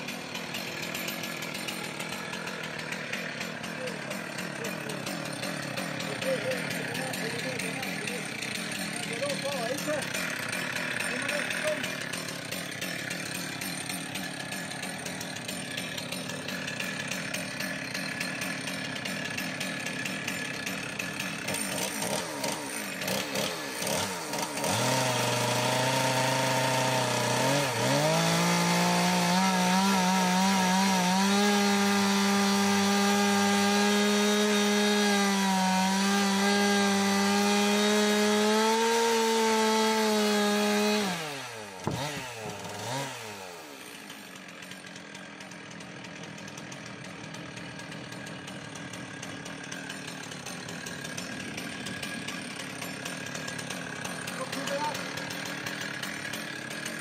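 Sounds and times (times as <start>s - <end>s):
chainsaw running: 0.0s - 57.0s.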